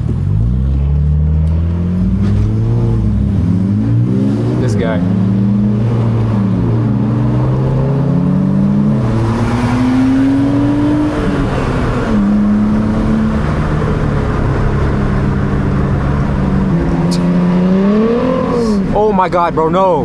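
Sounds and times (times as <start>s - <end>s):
car engine revving: 0.0s - 19.7s
car engine steady low note: 0.0s - 20.0s.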